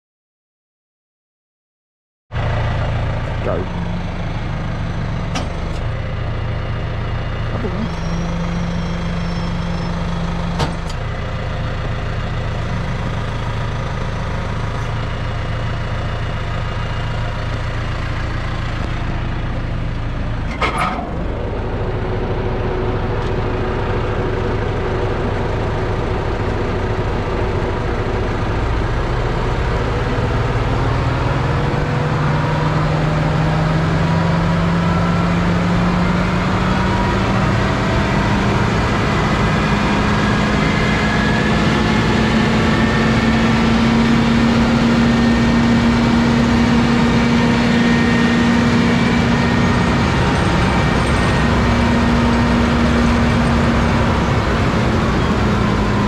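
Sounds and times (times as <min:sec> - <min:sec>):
tractor diesel engine idling: 0:02.4 - 0:56.0.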